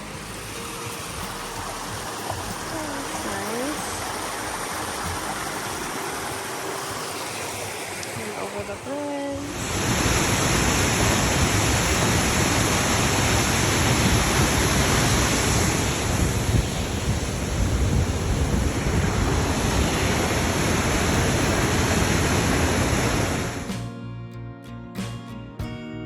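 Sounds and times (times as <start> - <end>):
waterfall roaring: 0.0 - 23.7.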